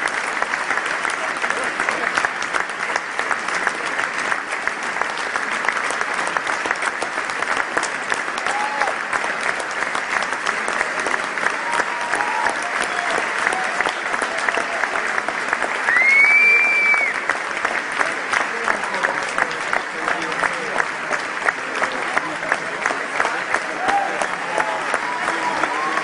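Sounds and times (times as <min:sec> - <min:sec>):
audience applauding: 0:00.0 - 0:26.0
faint voices in crowd: 0:00.0 - 0:26.0.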